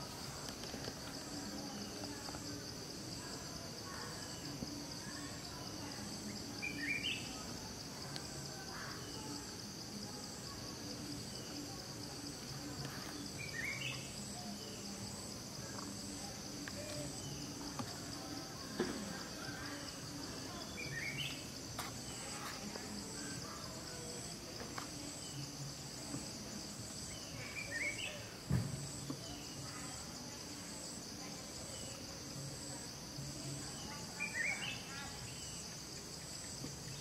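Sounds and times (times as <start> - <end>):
insects chorus pulsing: 0.0 - 37.0.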